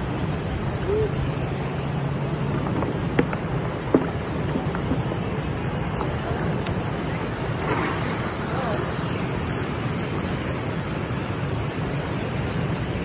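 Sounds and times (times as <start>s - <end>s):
churning water rushing: 0.0s - 13.0s.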